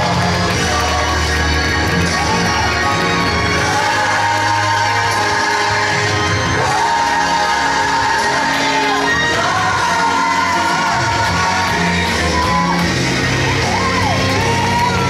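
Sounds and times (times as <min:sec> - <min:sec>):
person singing worship song: 0:00.0 - 0:15.0
steady bass line: 0:00.0 - 0:15.0.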